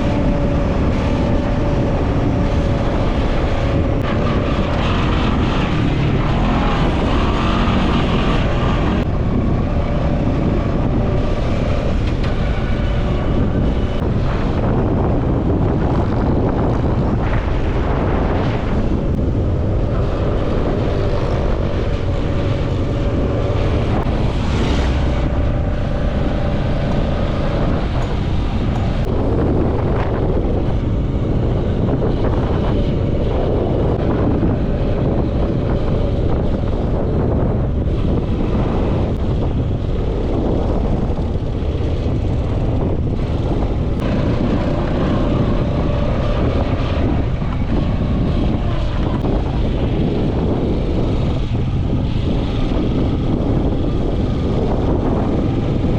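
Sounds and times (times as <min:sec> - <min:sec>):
quad bike engine: 0:00.0 - 0:55.9
wind buffeting microphone: 0:00.0 - 0:55.9.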